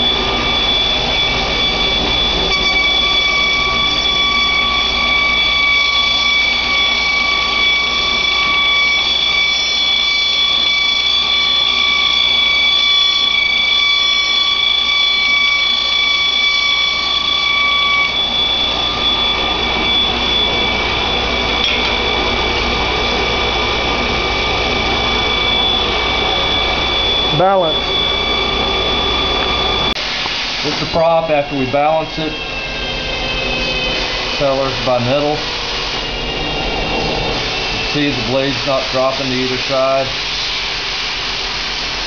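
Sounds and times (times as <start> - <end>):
belt grinder whine: 0.0 - 42.0.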